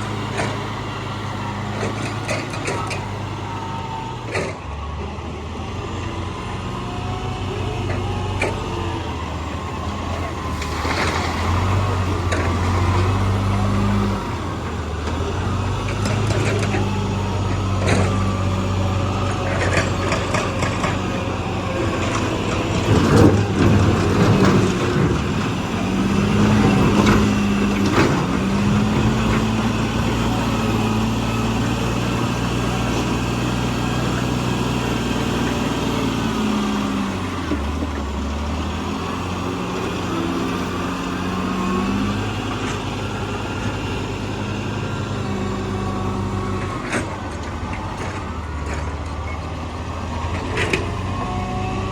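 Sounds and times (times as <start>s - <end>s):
heavy diesel engine revving: 0.0s - 51.9s.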